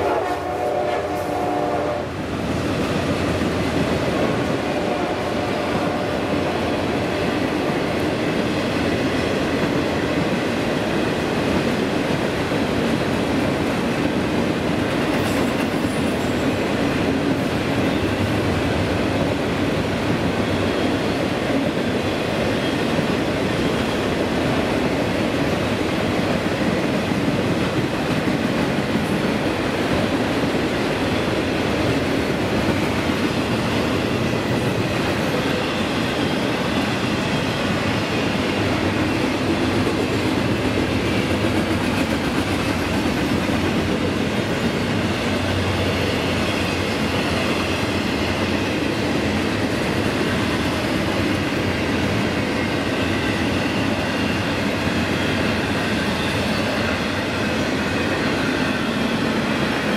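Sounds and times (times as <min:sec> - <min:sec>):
freight train wheels on track: 0:00.0 - 0:59.9.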